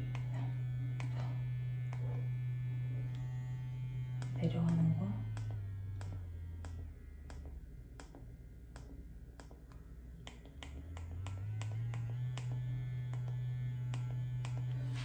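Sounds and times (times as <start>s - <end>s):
cleansing brush motor humming: 0.0s - 15.0s.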